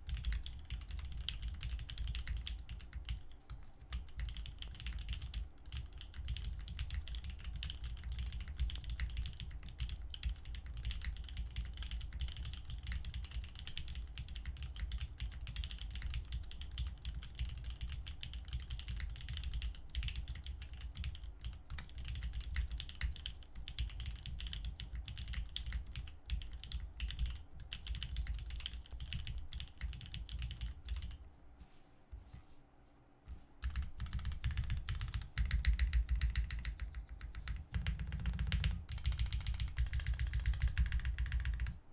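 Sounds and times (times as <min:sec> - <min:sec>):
fast typing on mechanical keyboard: 0:00.0 - 0:31.2, 0:33.6 - 0:41.8.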